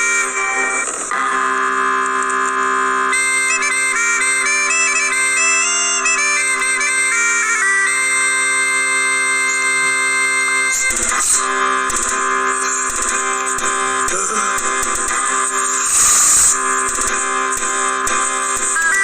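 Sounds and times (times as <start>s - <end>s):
held drone notes: 0.0s - 19.0s.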